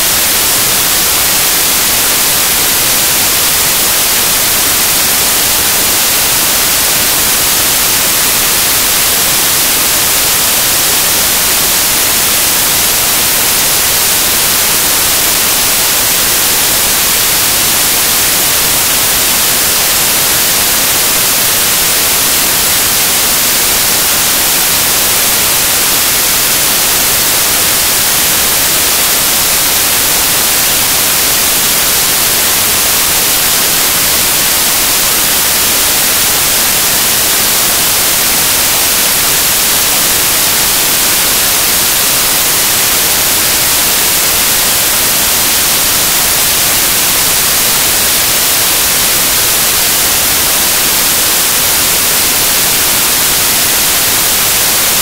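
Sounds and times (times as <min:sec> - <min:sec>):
loud static hiss: 0:00.0 - 0:55.0.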